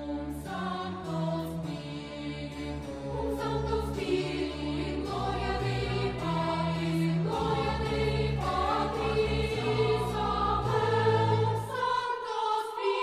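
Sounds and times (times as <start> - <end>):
choir singing slow chords: 0.0 - 13.0.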